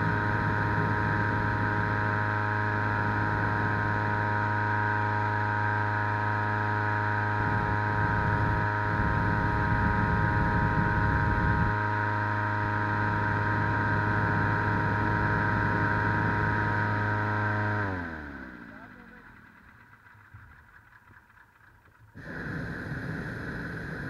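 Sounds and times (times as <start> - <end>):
inflator fan engine running: 0.0 - 24.0.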